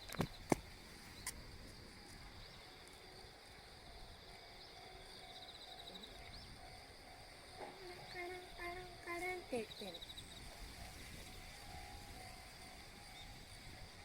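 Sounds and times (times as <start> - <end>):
faint insect trill: 0.0 - 14.0.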